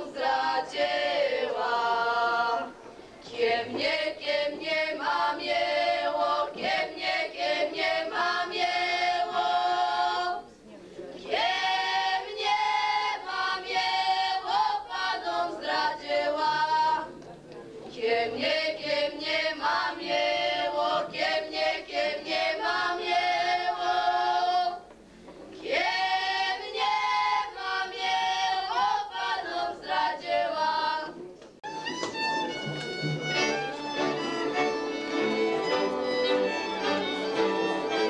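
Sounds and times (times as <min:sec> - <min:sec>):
girls singing unaccompanied: 0:00.0 - 0:10.6, 0:11.2 - 0:31.2.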